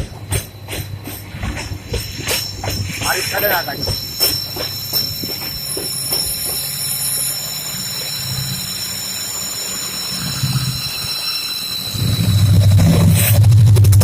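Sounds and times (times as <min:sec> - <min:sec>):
train rumbling on track: 0:00.0 - 0:14.0
high-pitched wheel squeal: 0:02.3 - 0:13.6.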